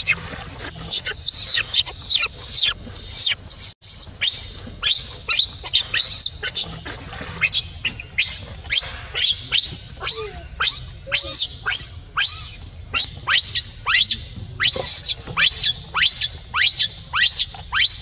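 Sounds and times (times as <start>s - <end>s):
baby monkey screaming: 0.0s - 18.0s.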